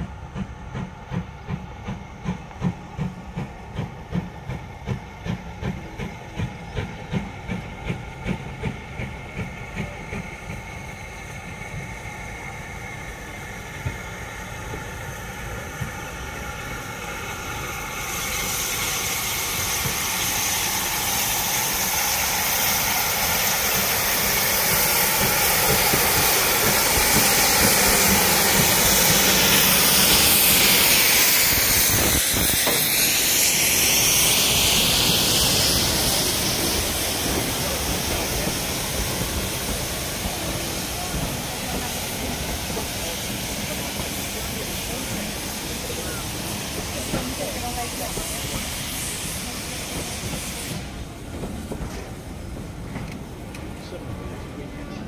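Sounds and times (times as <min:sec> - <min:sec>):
steam locomotive chugging: 0:00.0 - 0:55.0
hiss of escaping steam: 0:00.1 - 0:54.6.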